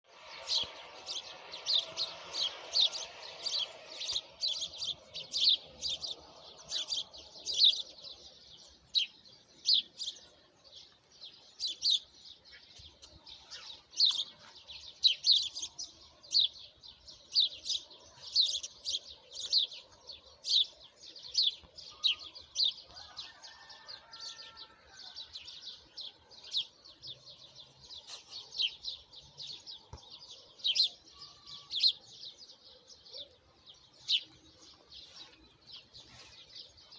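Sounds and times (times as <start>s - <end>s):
small songbirds chirping: 0.0s - 36.9s.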